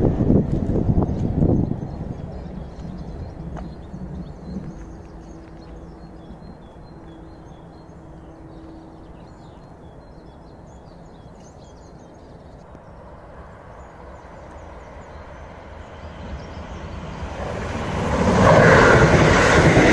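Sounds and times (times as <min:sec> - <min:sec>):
train passing: 0:00.0 - 0:19.9
birds chirping: 0:01.0 - 0:19.9.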